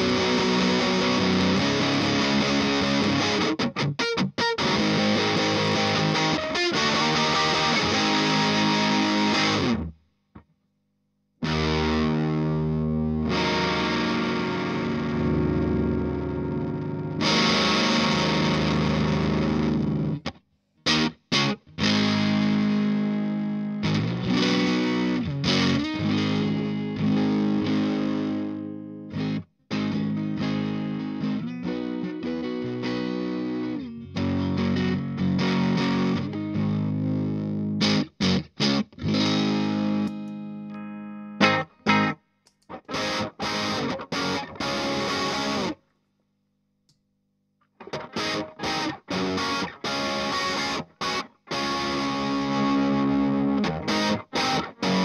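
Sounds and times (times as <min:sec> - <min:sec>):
distorted electric guitar: 0:00.0 - 0:10.0, 0:11.4 - 0:45.8, 0:47.6 - 0:55.0.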